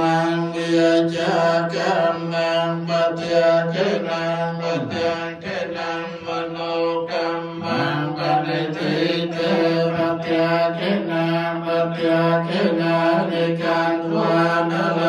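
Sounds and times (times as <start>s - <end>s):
voices chanting on one note: 0.0s - 15.0s.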